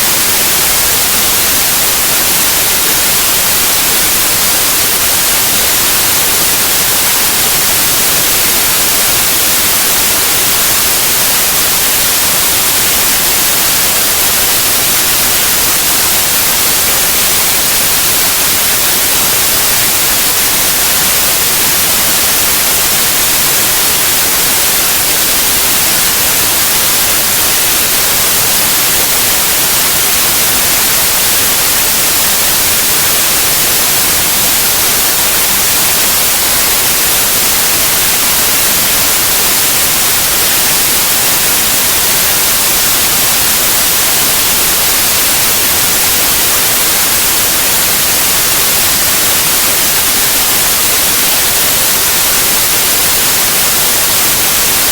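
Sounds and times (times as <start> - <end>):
white noise hiss: 0.0 - 54.9.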